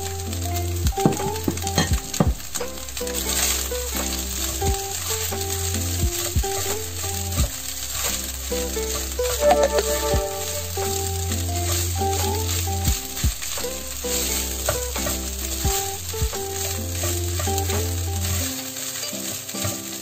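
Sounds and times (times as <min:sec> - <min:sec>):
background music with bass: 0:00.0 - 0:20.0
rice sizzling in a wok: 0:00.0 - 0:20.0
spatula scraping a wok: 0:00.0 - 0:20.0.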